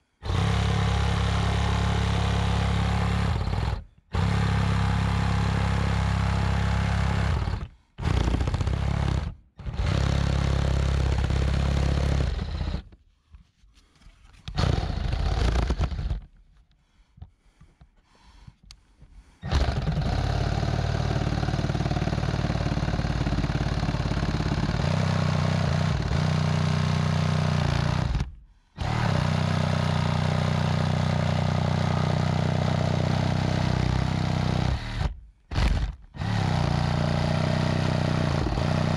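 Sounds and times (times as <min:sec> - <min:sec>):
power saw cutting wood: 0:00.2 - 0:12.9, 0:14.5 - 0:16.3, 0:19.4 - 0:38.9.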